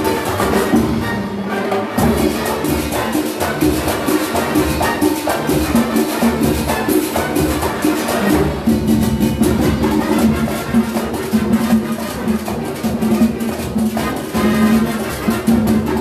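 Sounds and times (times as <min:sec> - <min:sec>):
latin big band playing salsa: 0:00.0 - 0:16.0.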